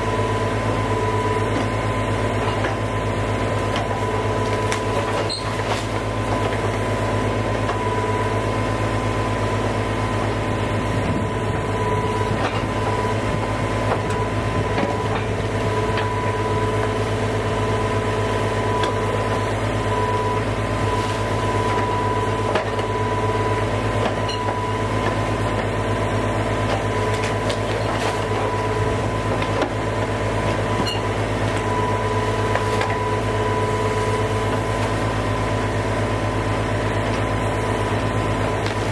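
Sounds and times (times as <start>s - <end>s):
equipment engine running: 0.0s - 38.9s.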